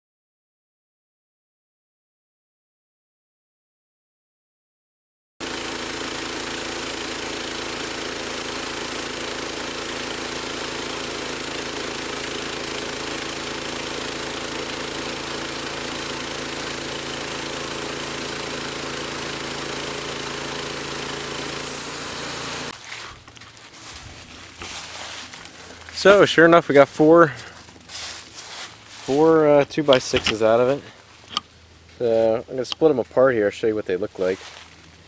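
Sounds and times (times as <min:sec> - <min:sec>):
sawmill engine running: 0:05.4 - 0:22.8, 0:23.6 - 0:35.0.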